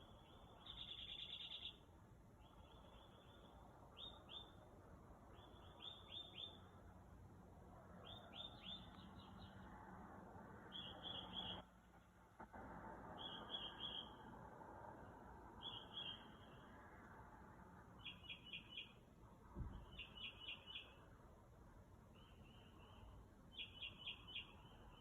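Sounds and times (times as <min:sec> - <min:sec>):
songbird chirping: 0:00.0 - 0:12.1, 0:13.0 - 0:25.0.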